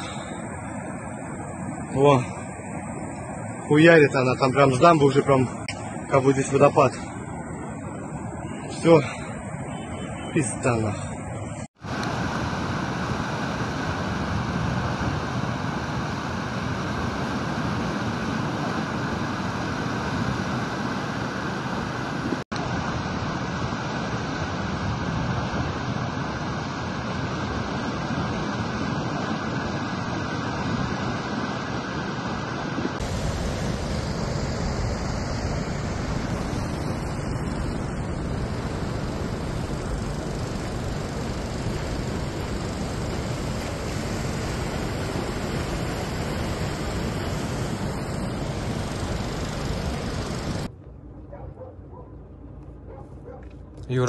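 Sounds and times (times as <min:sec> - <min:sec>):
floodwater rushing roar: 0:00.0 - 0:50.7.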